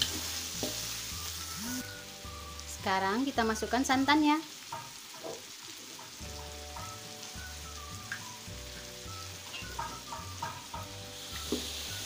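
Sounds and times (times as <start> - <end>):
meat sizzling in a wok: 0.0 - 12.0.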